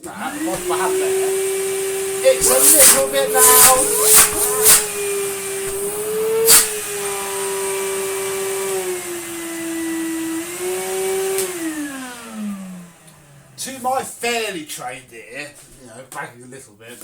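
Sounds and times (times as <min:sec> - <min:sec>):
vacuum cleaner motor whining: 0:00.0 - 0:13.9.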